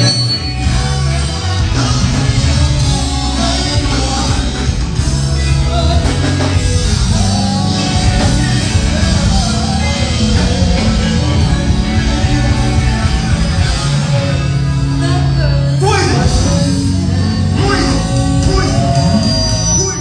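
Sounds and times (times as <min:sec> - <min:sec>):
live band playing: 0:00.0 - 0:20.0
person singing on microphone: 0:00.0 - 0:20.0.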